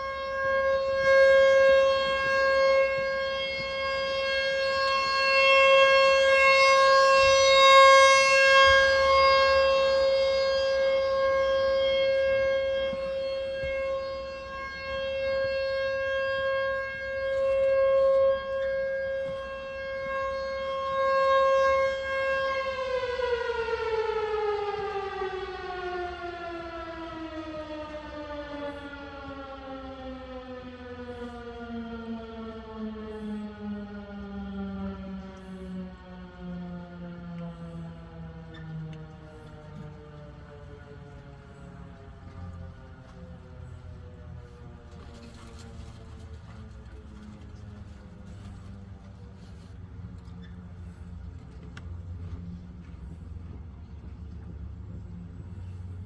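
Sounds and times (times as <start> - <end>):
warning siren at steady pitch: 0.0 - 56.0.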